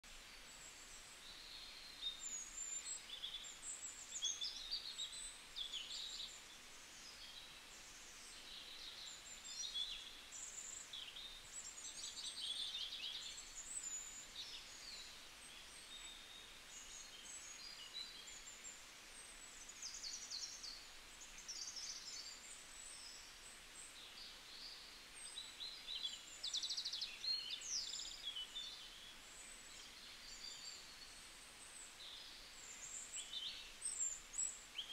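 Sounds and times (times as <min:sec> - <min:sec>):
faint steady background noise: 0:00.0 - 0:34.9
small birds chirping: 0:00.0 - 0:34.9.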